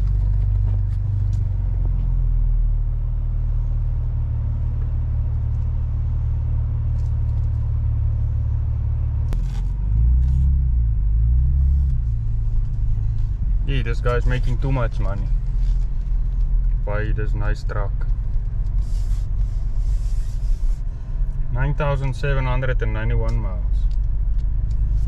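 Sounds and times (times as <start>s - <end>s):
truck engine rumble: 0.0s - 25.0s.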